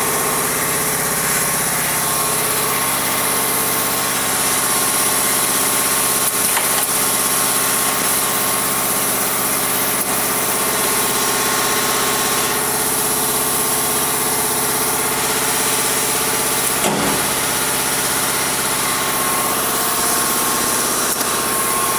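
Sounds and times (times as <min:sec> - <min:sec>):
saw machine humming: 0:00.0 - 0:21.9.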